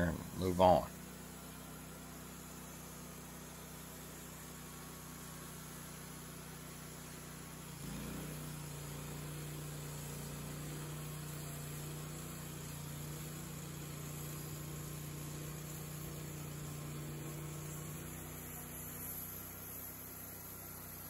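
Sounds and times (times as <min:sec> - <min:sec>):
band sawmill engine hum: 0:00.0 - 0:21.0.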